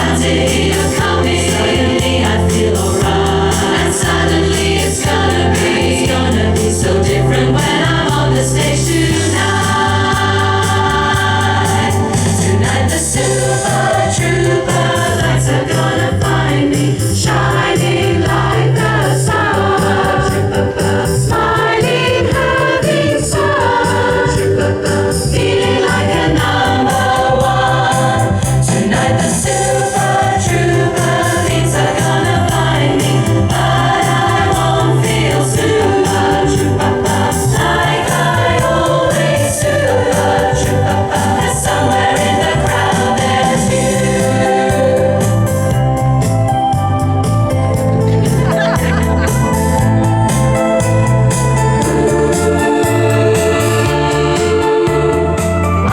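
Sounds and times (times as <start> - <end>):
choir singing with accompaniment: 0.0 - 55.9.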